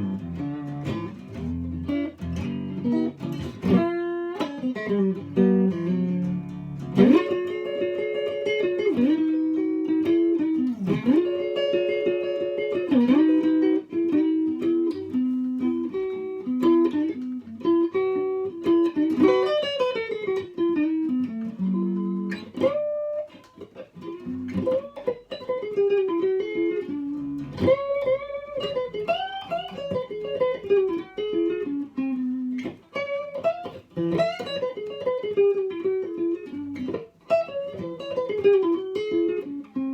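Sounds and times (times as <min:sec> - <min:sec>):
clean electric guitar playing: 0:00.0 - 0:39.9.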